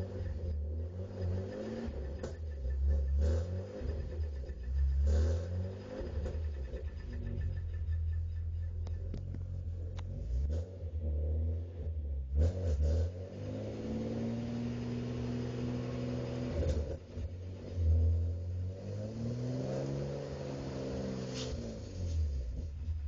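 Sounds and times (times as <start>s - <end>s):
car engine accelerating through gears: 0.0s - 23.0s
low road rumble: 0.0s - 23.0s.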